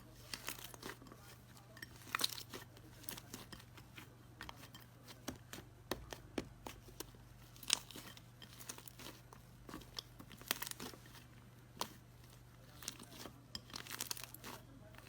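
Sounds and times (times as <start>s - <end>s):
slime clicking and crackling: 0.0s - 3.8s, 4.5s - 15.0s
steady low hum: 0.0s - 15.0s.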